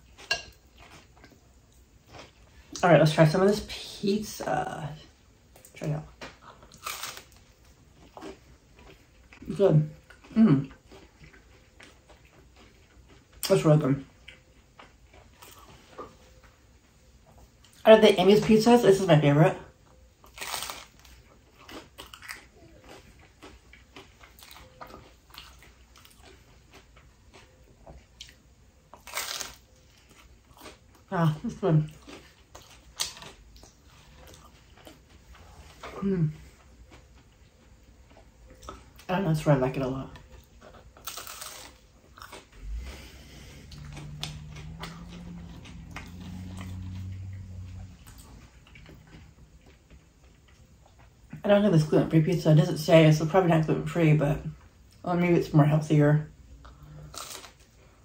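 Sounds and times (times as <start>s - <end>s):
close-up chewing with crunching: 0.0s - 3.7s, 5.5s - 17.9s, 19.7s - 51.4s, 56.6s - 58.0s
low steady hum: 0.0s - 58.0s.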